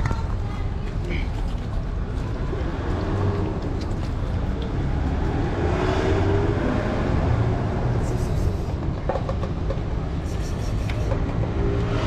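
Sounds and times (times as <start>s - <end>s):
traffic rumbling: 0.0s - 12.0s
vehicle passing: 2.0s - 12.0s.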